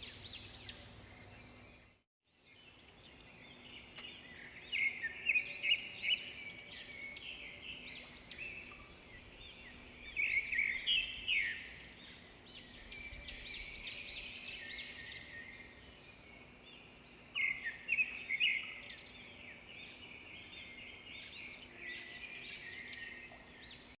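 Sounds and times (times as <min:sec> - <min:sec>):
small birds chirping and singing: 0:00.0 - 0:24.0.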